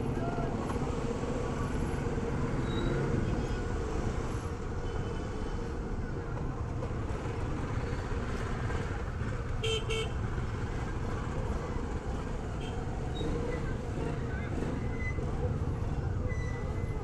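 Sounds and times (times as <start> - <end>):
van engine and road rumble: 0.0 - 17.0.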